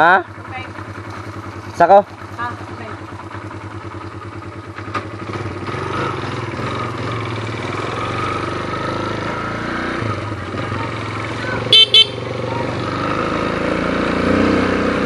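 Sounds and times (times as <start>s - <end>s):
motorcycle engine idling and pulling away: 0.0s - 15.0s.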